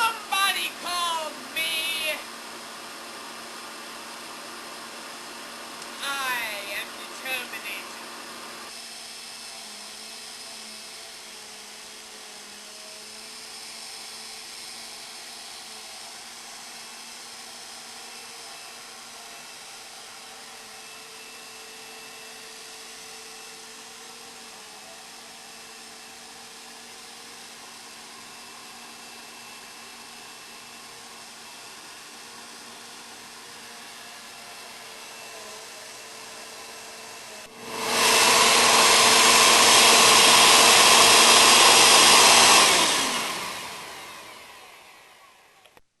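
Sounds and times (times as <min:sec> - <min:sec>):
vacuum cleaner motor running: 0:00.0 - 0:45.8.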